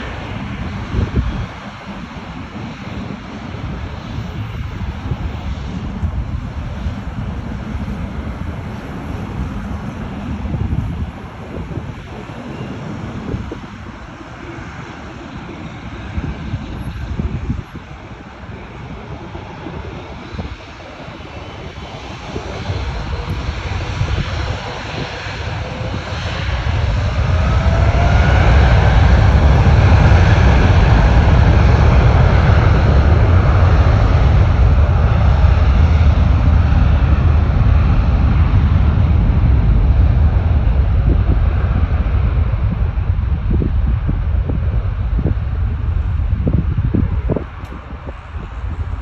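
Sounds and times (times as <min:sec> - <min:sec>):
jet engines roaring at takeoff: 0:00.0 - 0:49.0.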